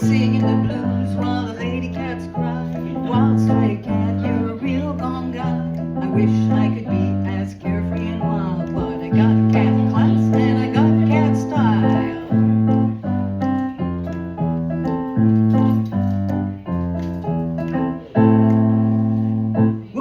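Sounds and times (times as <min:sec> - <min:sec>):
keyboard playing chords: 0:00.0 - 0:20.0.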